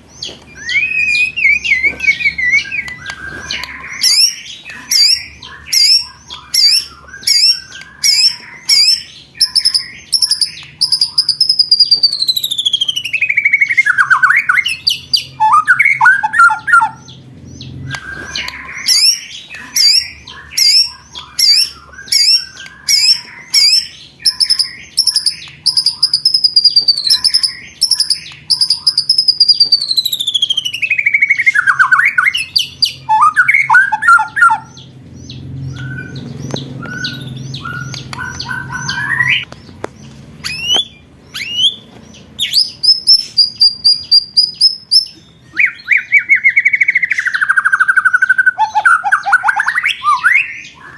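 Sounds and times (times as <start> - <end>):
songbird song: 0.0 - 50.9.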